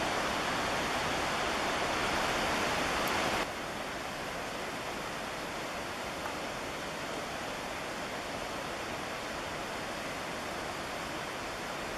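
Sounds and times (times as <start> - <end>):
steady rushing noise: 0.0 - 11.9.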